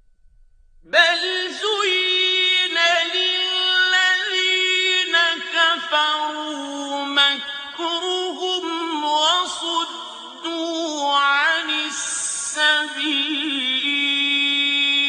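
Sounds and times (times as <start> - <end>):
man reciting melodically: 0.9 - 15.0.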